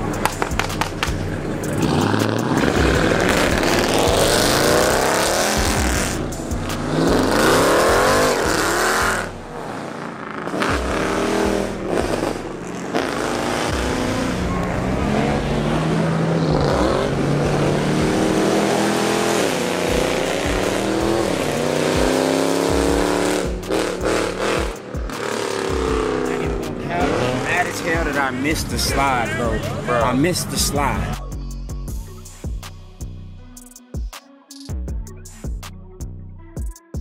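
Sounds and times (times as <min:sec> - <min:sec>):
cars accelerating hard: 0:00.0 - 0:31.2.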